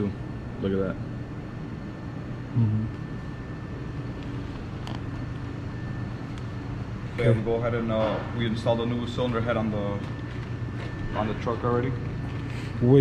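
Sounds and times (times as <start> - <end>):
low mechanical hum of machinery: 0.0 - 13.0.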